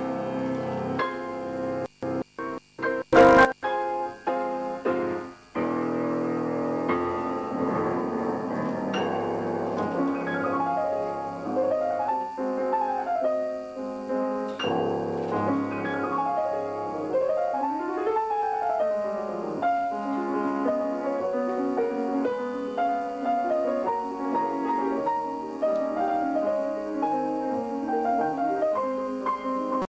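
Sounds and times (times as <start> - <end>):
solo classical keyboard music: 0.0 - 29.9.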